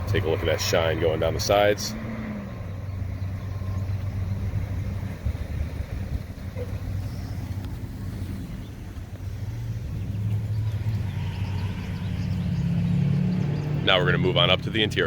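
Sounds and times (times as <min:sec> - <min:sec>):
engine rumble with faint hum: 0:00.0 - 0:15.0.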